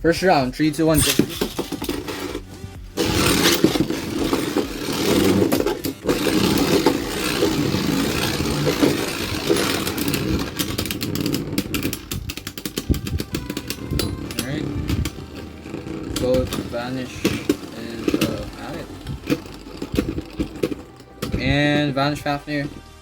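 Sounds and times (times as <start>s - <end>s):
spinning tops grinding and scraping: 0.9s - 23.0s
spinning tops clicking and clattering: 1.0s - 22.8s.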